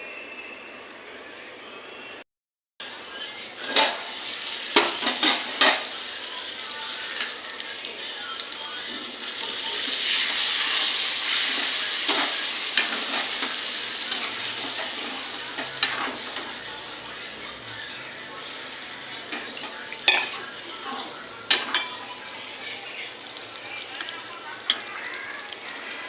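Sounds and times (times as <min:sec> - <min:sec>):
food sizzling in hot oil: 0:02.8 - 0:26.0.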